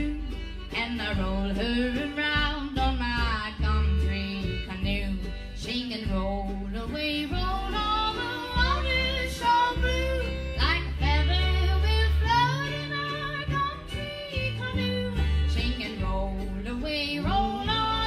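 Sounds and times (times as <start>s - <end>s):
acoustic string band music: 0.0s - 18.0s
upright bass low notes: 0.0s - 18.0s.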